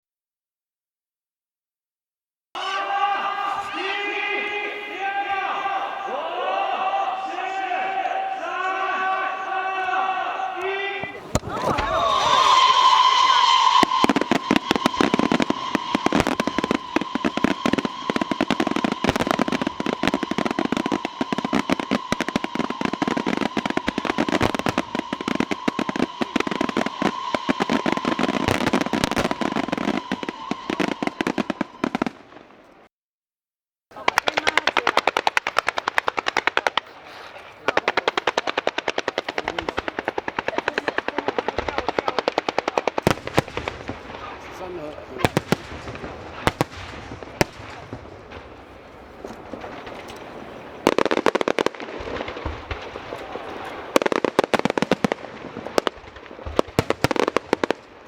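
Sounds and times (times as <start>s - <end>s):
fireworks bangs and pops: 2.6s - 32.8s, 33.9s - 58.0s.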